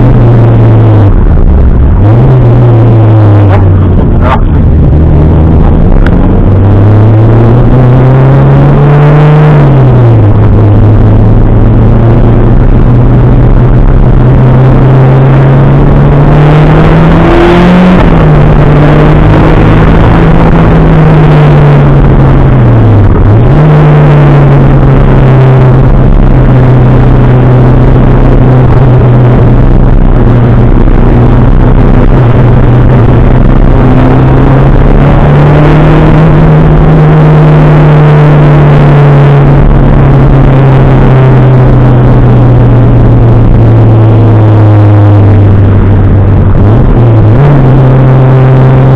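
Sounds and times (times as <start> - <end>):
car engine running hard: 0.0 - 48.9.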